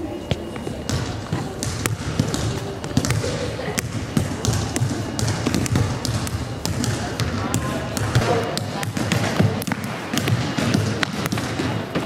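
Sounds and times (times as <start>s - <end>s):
basketballs bouncing on floor: 0.3s - 12.0s.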